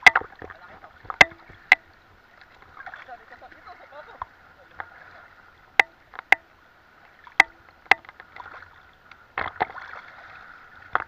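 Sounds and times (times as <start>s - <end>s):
water splash: 0.0s - 6.5s, 7.1s - 11.0s
sea water sloshing and lapping: 0.0s - 11.0s.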